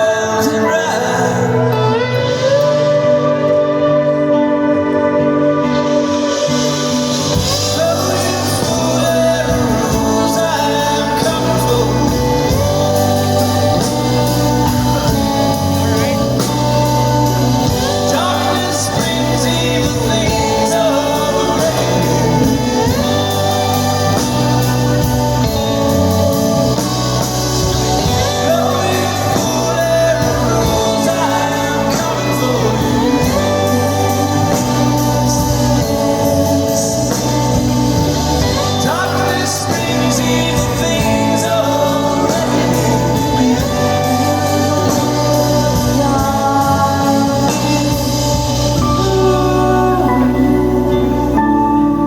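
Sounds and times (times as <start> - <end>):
live band music: 0.0 - 52.0
person singing lead vocal: 0.0 - 52.0.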